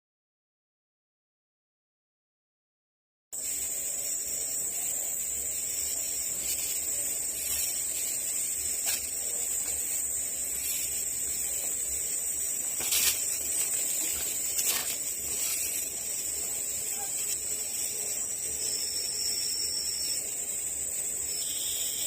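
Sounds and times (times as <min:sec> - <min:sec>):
high-pitched insect drone: 0:03.4 - 0:22.0
soft hiss: 0:03.4 - 0:22.0.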